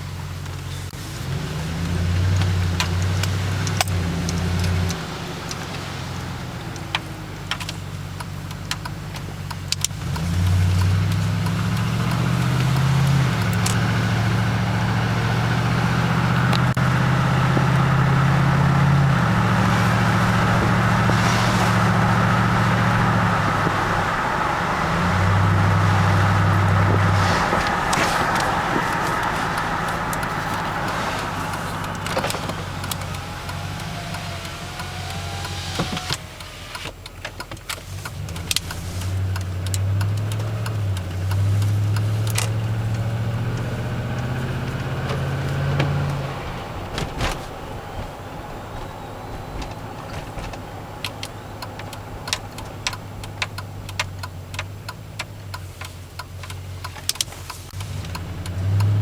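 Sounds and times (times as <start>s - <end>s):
car engine running: 0.0s - 59.0s
sharp clicks: 2.3s - 46.2s, 49.5s - 59.0s.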